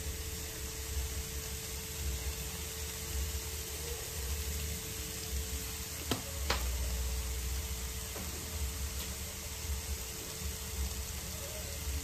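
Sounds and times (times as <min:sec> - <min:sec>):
liver sizzling in a pan: 0:00.0 - 0:12.0.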